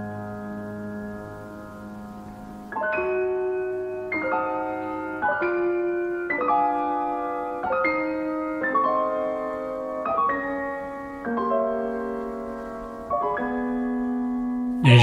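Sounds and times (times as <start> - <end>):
slow gentle piano music: 0.0 - 14.8.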